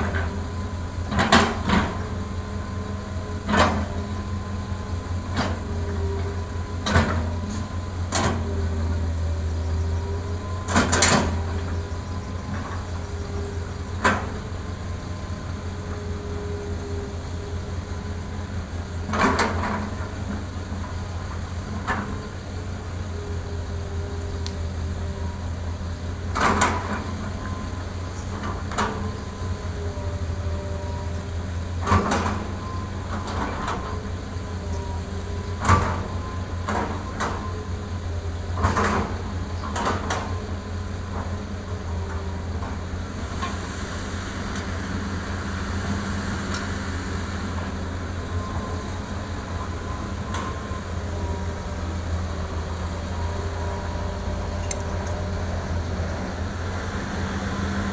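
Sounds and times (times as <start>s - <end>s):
excavator diesel engine running: 0.0s - 57.9s.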